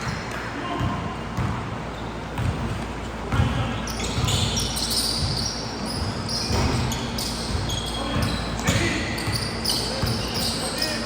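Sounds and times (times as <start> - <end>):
basketball bouncing: 0.0 - 10.6
sneakers squeaking on floor: 0.0 - 11.0.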